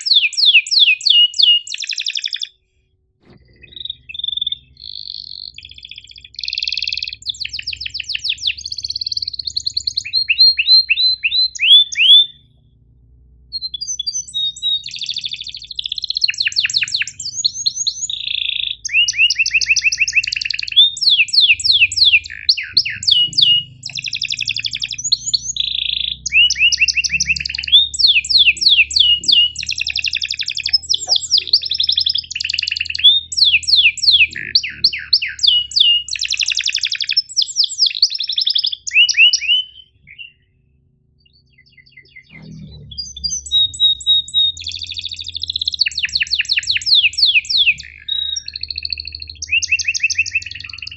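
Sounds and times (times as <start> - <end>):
canary singing: 0.0 - 2.6, 3.2 - 12.7, 13.4 - 40.6, 41.2 - 50.9.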